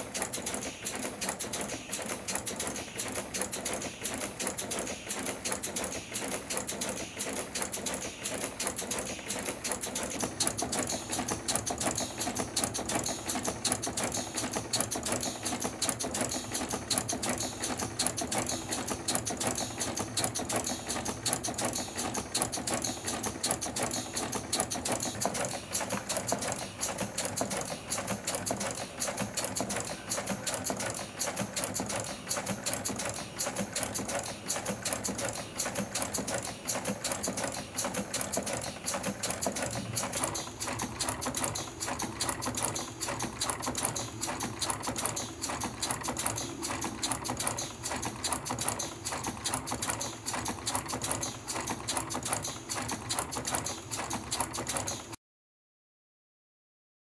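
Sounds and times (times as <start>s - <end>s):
clatter of plastic piston engine: 0.0s - 55.2s.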